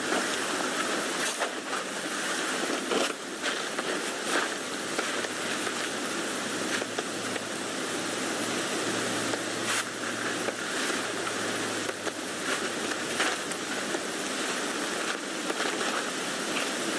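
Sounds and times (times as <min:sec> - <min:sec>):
rain pattering on a tent: 0:00.0 - 0:16.9.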